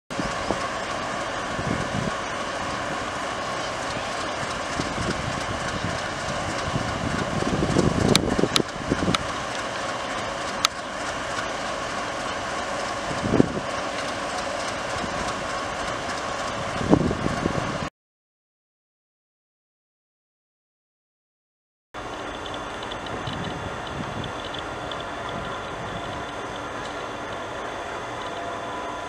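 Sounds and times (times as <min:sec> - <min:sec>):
diesel locomotive engines running: 0:00.1 - 0:17.9, 0:22.0 - 0:29.0.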